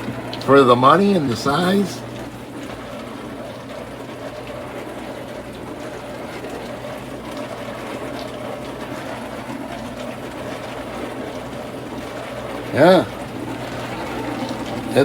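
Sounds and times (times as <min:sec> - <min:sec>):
dishwasher pump hum: 0:00.0 - 0:15.0
water spraying inside dishwasher: 0:00.0 - 0:15.0.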